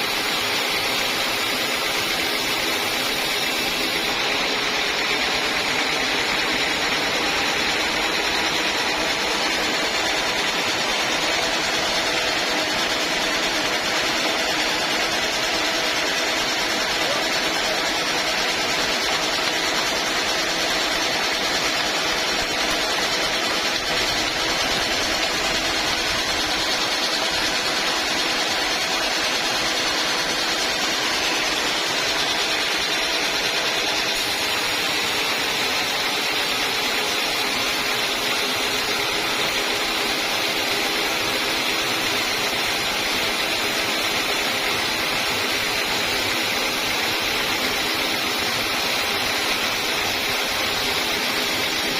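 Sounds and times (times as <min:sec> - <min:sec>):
band saw blade cutting log: 0:00.0 - 0:51.9.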